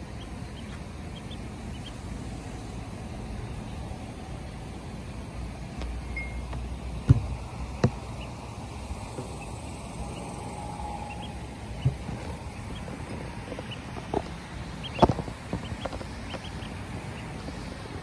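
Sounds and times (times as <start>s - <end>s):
ducklings peeping: 0.0s - 18.0s
low outdoor rumble: 0.0s - 18.0s.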